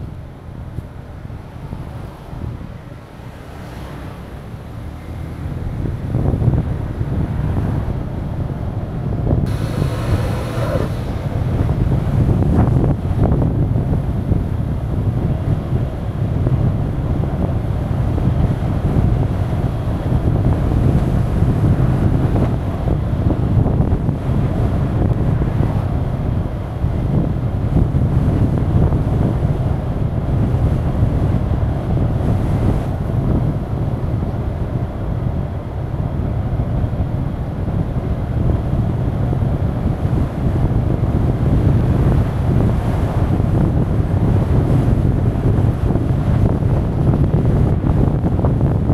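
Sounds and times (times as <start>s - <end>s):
road noise: 0.0s - 48.9s
wind buffeting microphone: 0.0s - 48.9s.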